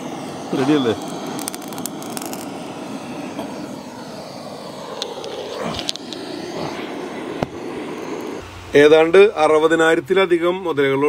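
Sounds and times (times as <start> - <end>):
gas torch rushing: 0.0 - 10.8.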